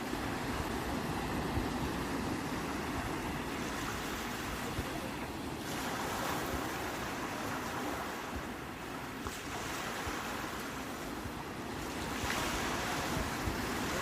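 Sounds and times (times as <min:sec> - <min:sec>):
sea waves washing ashore: 0:00.0 - 0:14.0
wind on microphone: 0:00.0 - 0:14.0.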